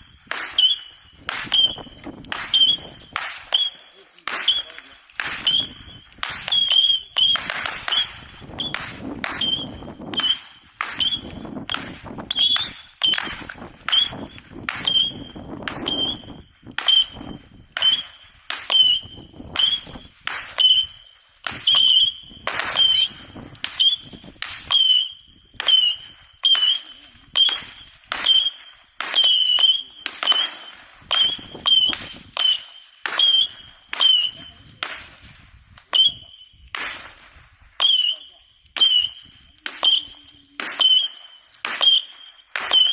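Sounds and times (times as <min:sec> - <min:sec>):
fireworks whistling and cracking: 0:00.0 - 0:42.9.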